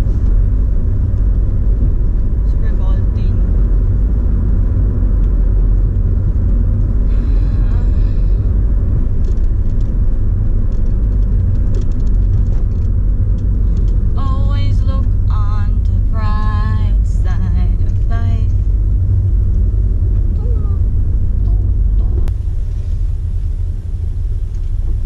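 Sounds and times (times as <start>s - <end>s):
car rumbling on the move: 0.0s - 25.0s.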